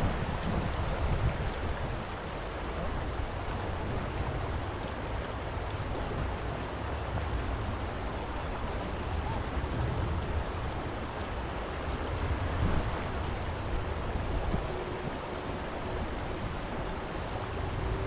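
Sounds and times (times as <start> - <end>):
shallow river water flowing: 0.0 - 18.0
wind rumble on microphone: 0.0 - 18.0.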